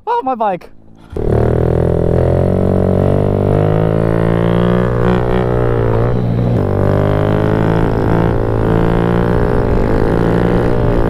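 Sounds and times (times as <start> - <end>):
background music with droning bass: 0.7 - 11.0.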